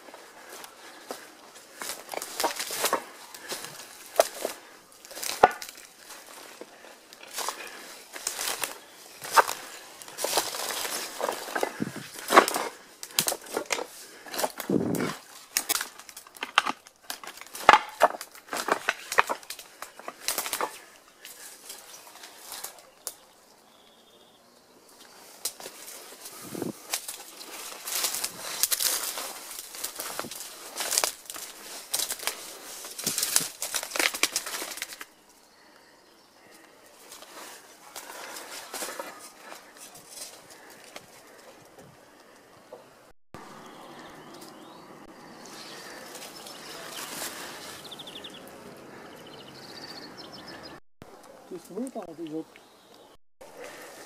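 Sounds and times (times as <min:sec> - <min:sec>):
footsteps through dry leaves: 0:00.0 - 0:23.0, 0:25.1 - 0:35.2, 0:36.4 - 0:41.5, 0:43.5 - 0:49.0
twigs snapping underfoot: 0:00.4 - 0:23.3, 0:25.0 - 0:42.5, 0:43.9 - 0:44.7, 0:45.4 - 0:49.0.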